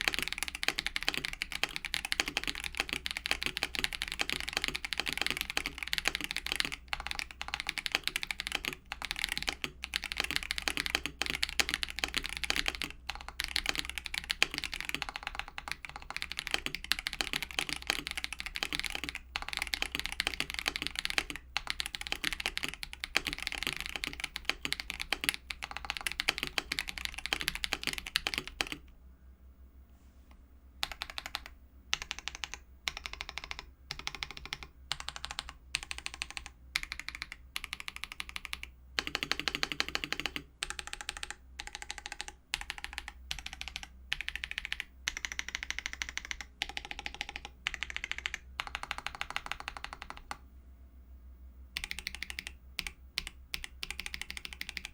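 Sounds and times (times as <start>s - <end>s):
typing on mechanical keyboard: 0.0s - 28.9s, 30.8s - 50.4s, 51.8s - 54.9s.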